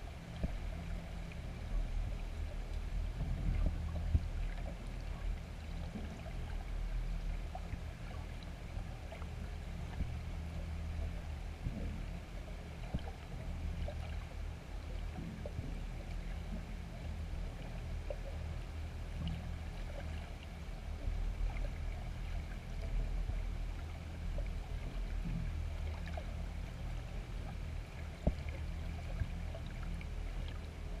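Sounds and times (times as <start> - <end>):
faint ticks and clicks: 0.0 - 31.0
low underwater rumble: 0.0 - 31.0.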